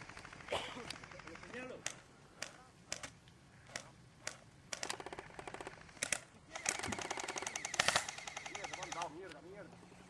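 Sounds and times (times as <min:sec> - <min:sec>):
airsoft guns firing: 0:00.0 - 0:09.2.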